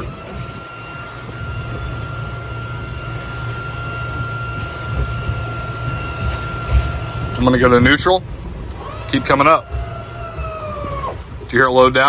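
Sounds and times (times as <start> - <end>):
anchor windlass motor whining: 0.0 - 12.0
low boat engine drone: 0.0 - 12.0.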